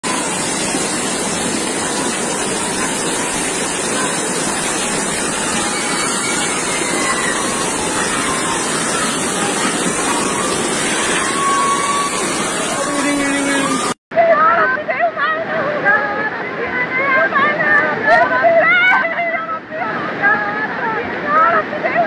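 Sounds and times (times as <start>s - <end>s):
floodwater rushing down street: 0.0s - 22.0s.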